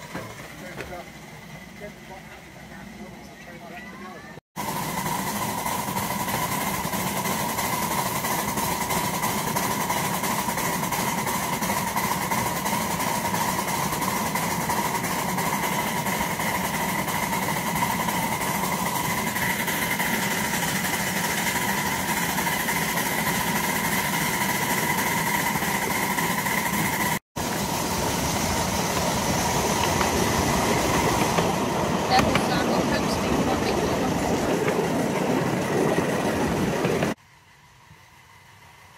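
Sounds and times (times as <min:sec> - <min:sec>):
miniature steam locomotive rumbling: 0:00.0 - 0:38.9.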